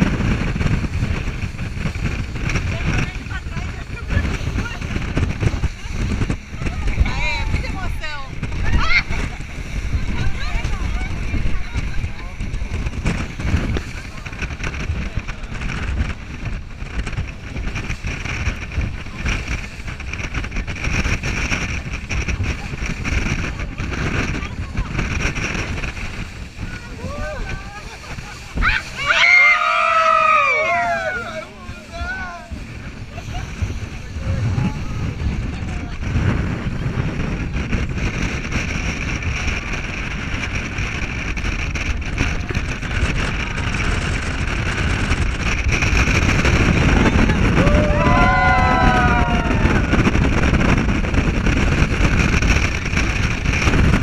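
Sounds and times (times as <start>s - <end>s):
boat engine: 0.0s - 54.0s
water rushing: 0.0s - 54.0s
wind buffeting microphone: 0.0s - 54.0s.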